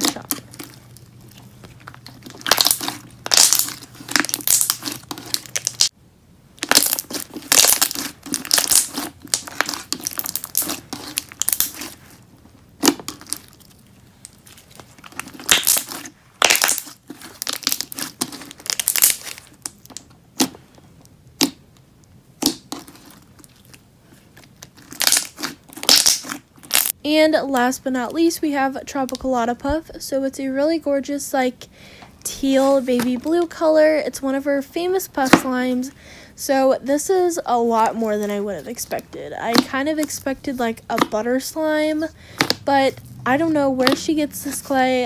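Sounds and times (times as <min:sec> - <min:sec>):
slime squelching: 0:00.0 - 0:05.9, 0:06.6 - 0:21.8, 0:22.4 - 0:27.0, 0:32.3 - 0:45.0.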